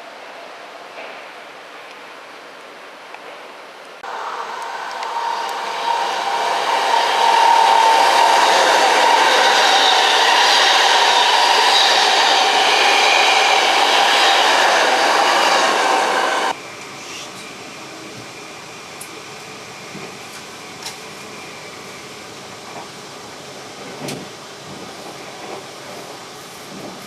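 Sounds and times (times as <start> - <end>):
electric train passing at speed: 4.0 - 27.0.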